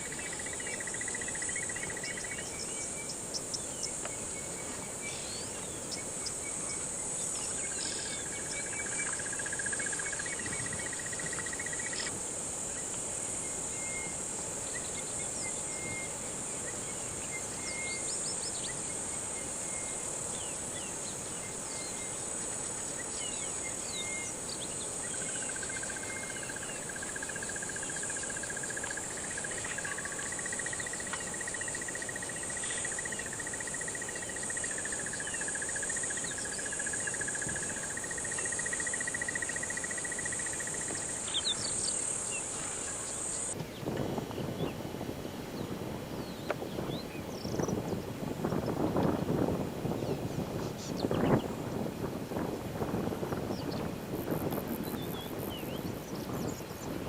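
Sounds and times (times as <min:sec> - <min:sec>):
crickets and insects chorus: 0:00.0 - 0:57.0
low pulsing insect trill: 0:00.0 - 0:57.0.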